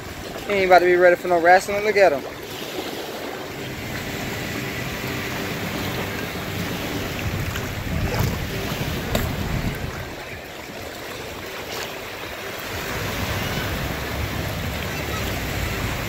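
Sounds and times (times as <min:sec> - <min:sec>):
people splashing in water: 0:00.0 - 0:16.0
small waves breaking: 0:00.0 - 0:16.0
wind rumbling on microphone: 0:02.2 - 0:16.0.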